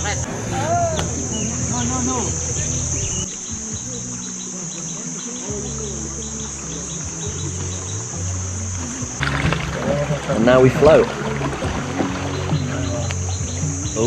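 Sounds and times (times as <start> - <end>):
insects buzzing drone: 0.0 - 14.0
pulsing insect chirps: 0.0 - 14.0.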